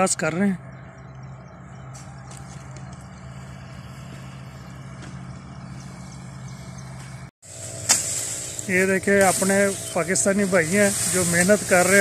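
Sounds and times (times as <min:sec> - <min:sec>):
motor humming steadily: 0:00.6 - 0:12.0.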